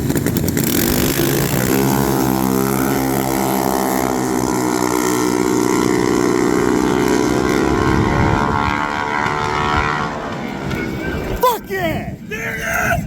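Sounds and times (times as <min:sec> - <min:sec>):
mini bike engine at full throttle: 0:00.0 - 0:11.4.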